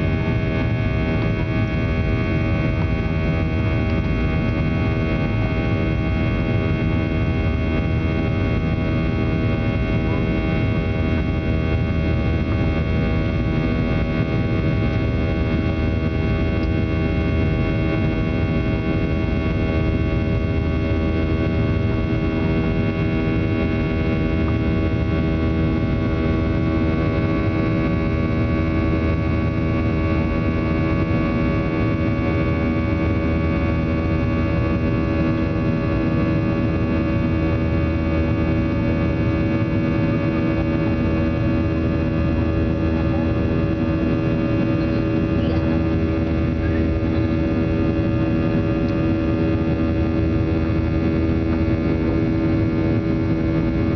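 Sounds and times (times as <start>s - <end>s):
jet engines droning in cabin: 0.0s - 53.9s.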